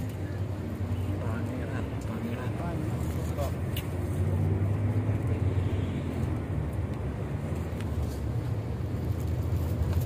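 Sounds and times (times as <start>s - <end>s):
road rumble: 0.0s - 10.0s.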